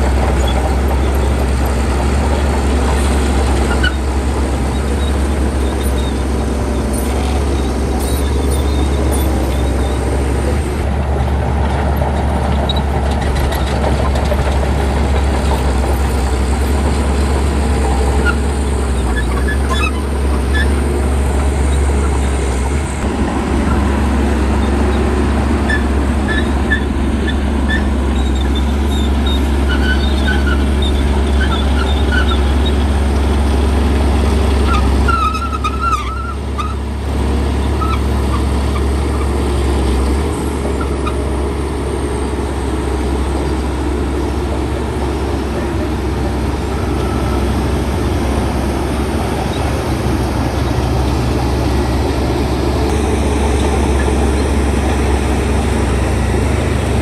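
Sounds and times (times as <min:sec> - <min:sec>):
heavy diesel engine rumbling: 0:00.0 - 0:57.0.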